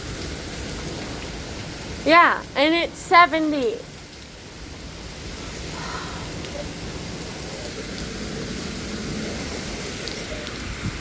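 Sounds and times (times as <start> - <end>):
heavy rain: 0.0 - 11.0
strong wind: 0.0 - 11.0.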